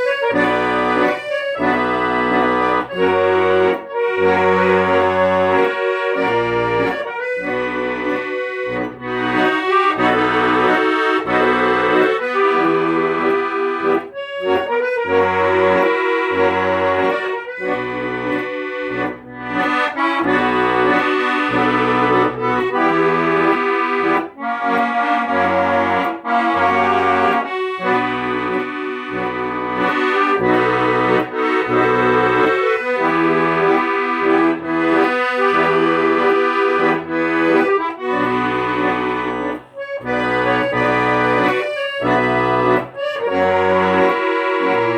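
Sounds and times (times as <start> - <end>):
accordion music: 0.0 - 44.9.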